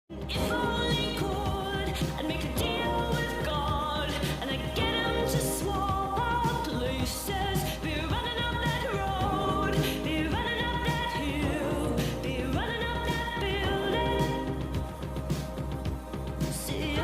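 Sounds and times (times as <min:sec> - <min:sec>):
instrumental backing with beat: 0:00.1 - 0:17.0
person singing: 0:00.2 - 0:15.6, 0:16.4 - 0:17.0.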